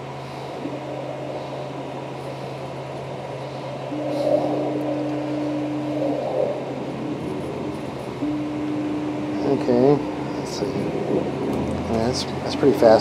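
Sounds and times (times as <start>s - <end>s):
motor whine: 0.0s - 13.0s
printer humming: 0.0s - 13.0s.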